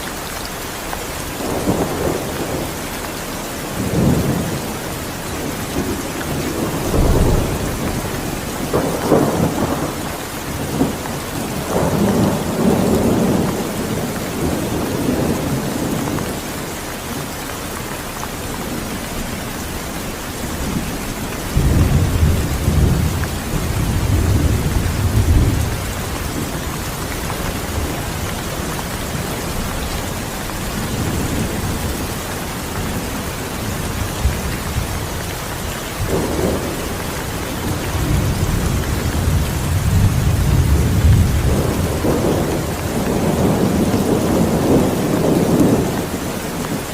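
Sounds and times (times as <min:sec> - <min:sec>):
steady rain falling: 0:00.0 - 0:46.9
low rolling thunder: 0:01.3 - 0:17.3, 0:18.4 - 0:46.9.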